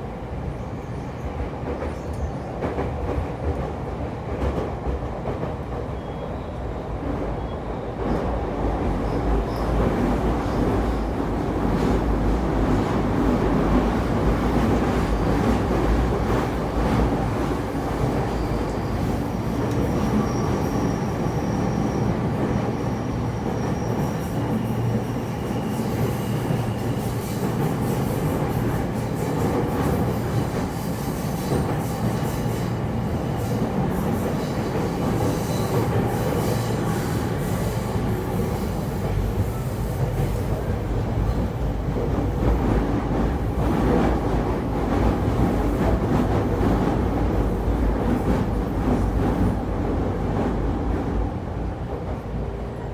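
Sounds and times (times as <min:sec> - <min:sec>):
train wheels rumbling: 0:08.0 - 0:52.9.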